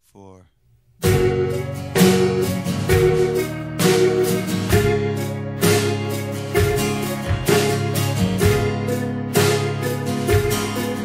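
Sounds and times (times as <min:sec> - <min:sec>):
strummed guitar chords: 0:01.0 - 0:11.0.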